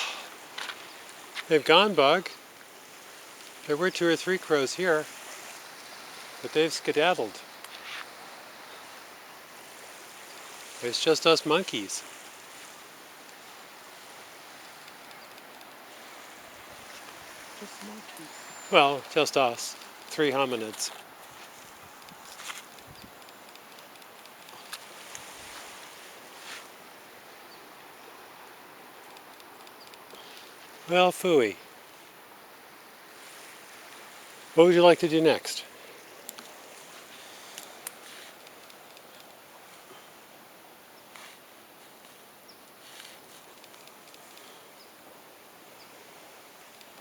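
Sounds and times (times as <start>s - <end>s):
outdoor background hiss: 0.0s - 47.0s.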